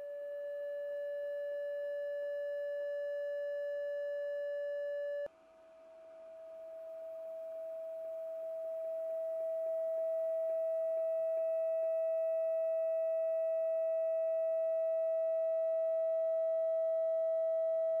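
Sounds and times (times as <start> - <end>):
steady pure tone: 0.0 - 18.0.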